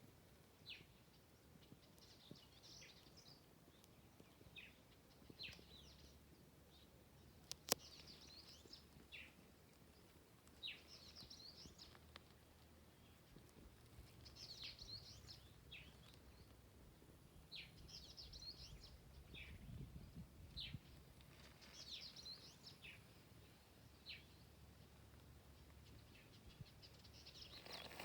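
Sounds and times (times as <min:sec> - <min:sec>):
small birds chirping and twittering: 0:00.0 - 0:28.0.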